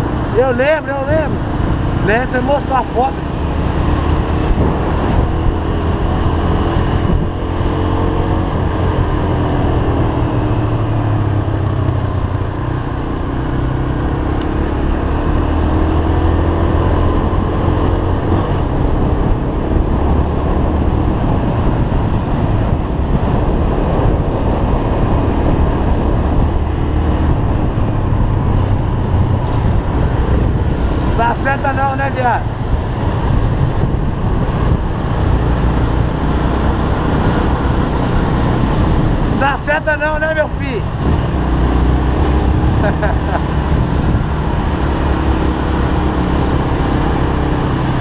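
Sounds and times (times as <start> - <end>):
motorcycle engine revving: 0.0 - 48.0
wind noise on microphone: 0.0 - 48.0.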